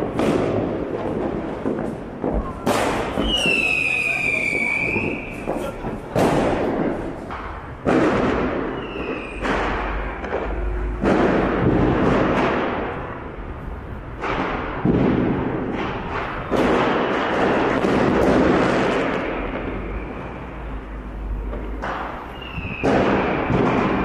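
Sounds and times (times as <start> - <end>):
firecracker crackles: 0.0 - 24.0
fireworks loud bangs: 0.0 - 24.0.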